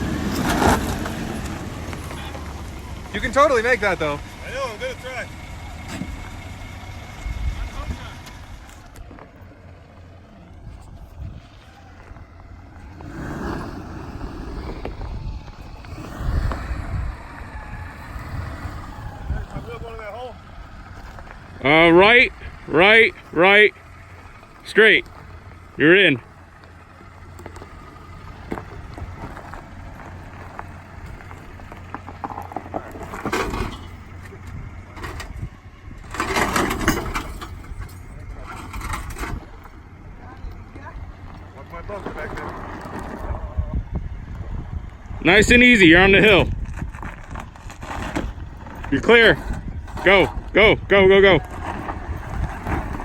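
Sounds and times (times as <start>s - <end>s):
off-road truck engine: 0.0s - 53.0s
tyres crunching over rock: 7.8s - 43.7s, 46.0s - 53.0s.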